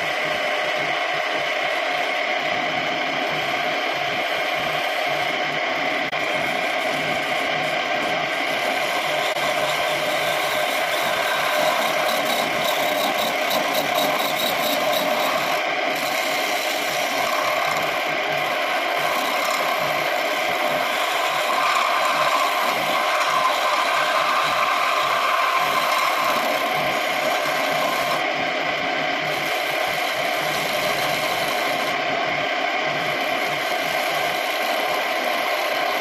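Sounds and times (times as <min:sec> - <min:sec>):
wood lathe turning wood: 0:06.1 - 0:36.0.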